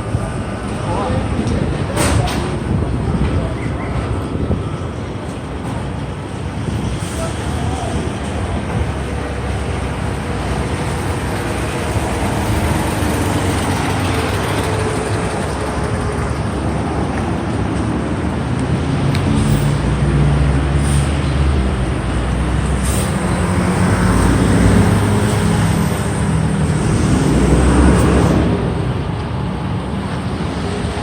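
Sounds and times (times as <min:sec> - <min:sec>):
heavy vehicle engine rumble: 0:00.0 - 0:31.0
vehicles passing: 0:00.0 - 0:31.0.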